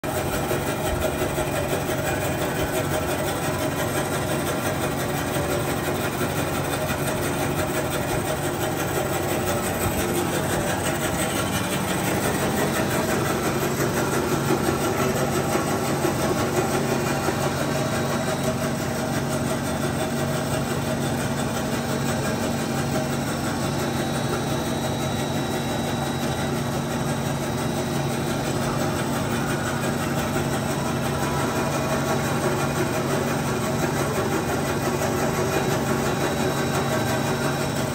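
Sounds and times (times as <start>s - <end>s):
band saw running: 0.0s - 37.9s.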